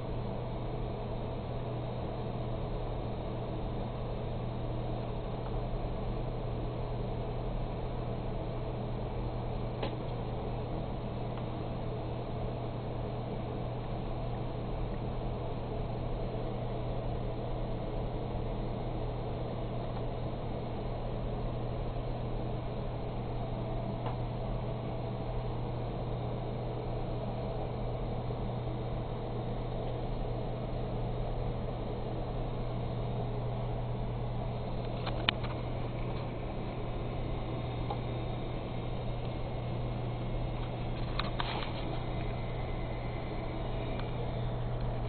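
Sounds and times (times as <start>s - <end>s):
server fan noise and hum: 0.0s - 45.0s.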